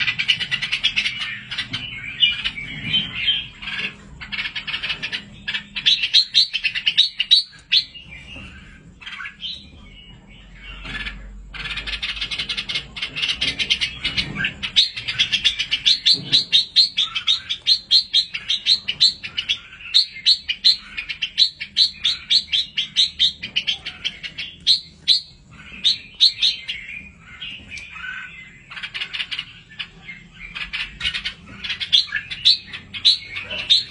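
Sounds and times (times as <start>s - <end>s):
bird chicks chirping: 0.0s - 33.9s.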